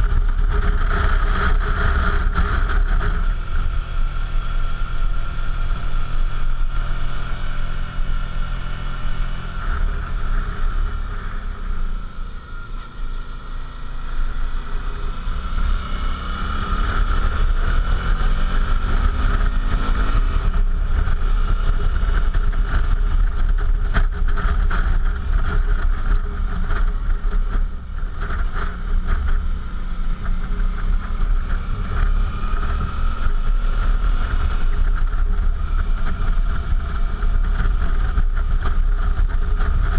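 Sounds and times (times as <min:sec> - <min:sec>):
motorcycle engine: 0:00.0 - 0:39.9
wind rumble on microphone: 0:00.0 - 0:39.9.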